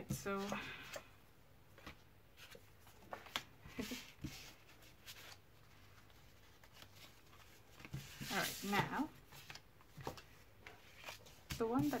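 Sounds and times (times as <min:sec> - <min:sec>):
paper cards rustling: 0:01.8 - 0:12.0.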